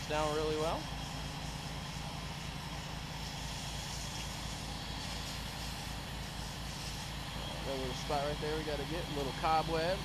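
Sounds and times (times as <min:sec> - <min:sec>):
hiss of water spray: 0:00.0 - 0:10.0
pressure washer engine running: 0:00.0 - 0:10.0.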